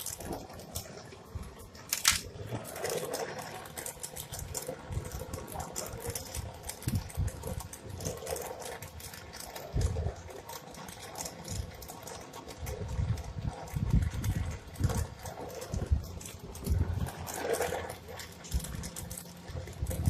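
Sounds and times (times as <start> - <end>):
small crackling clicks: 0.0 - 20.0.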